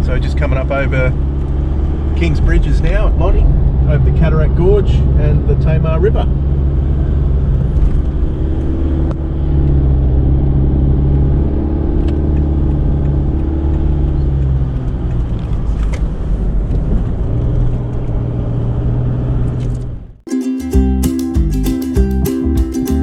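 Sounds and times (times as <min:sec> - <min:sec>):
car engine and road drone: 0:00.0 - 0:20.2.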